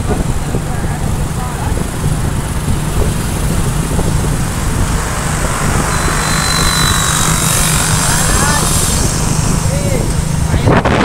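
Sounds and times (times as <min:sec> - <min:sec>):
motorcycle engine drone: 0:00.0 - 0:11.0
rushing wind noise: 0:00.0 - 0:11.0.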